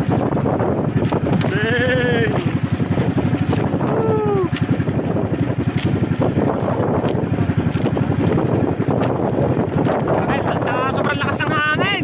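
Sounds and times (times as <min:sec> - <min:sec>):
boat rushing through choppy sea: 0:00.0 - 0:12.0
wind buffeting microphone: 0:00.0 - 0:12.0.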